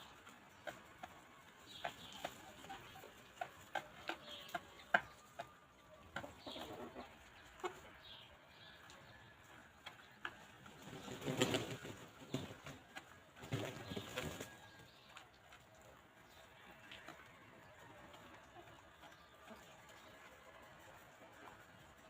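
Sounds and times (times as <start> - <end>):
chickens pecking: 0.0 - 22.0.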